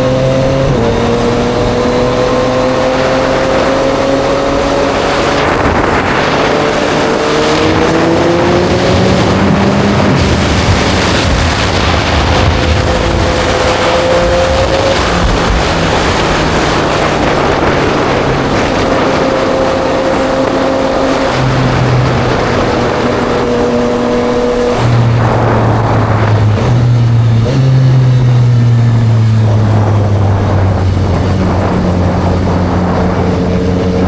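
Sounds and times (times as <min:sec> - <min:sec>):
motorcycle engine cruising: 0:00.0 - 0:34.0
wind and road noise: 0:00.0 - 0:34.0.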